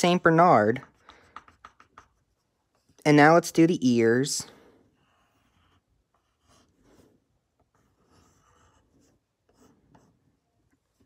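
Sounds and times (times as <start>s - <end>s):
pencil scratching on paper: 0.3s - 3.0s, 4.8s - 11.0s.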